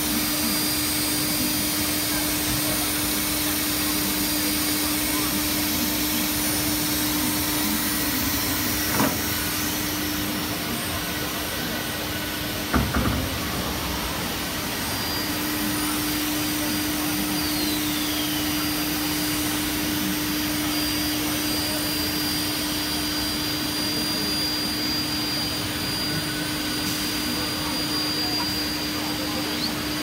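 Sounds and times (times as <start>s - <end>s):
machine spindle whirring: 0.0s - 30.0s
steady machine hum: 0.0s - 30.0s.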